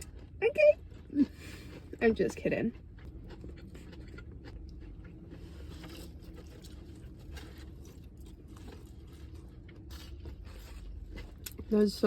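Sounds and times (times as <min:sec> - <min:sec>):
person chewing crispy chicken: 0:00.0 - 0:12.0.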